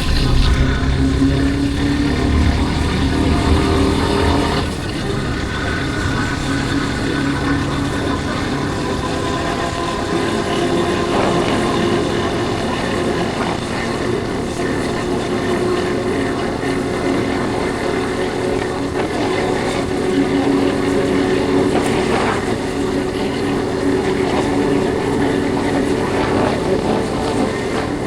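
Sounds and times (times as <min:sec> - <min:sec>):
motorcycle engine cruising: 0:00.0 - 0:28.0
wind noise: 0:00.0 - 0:28.0.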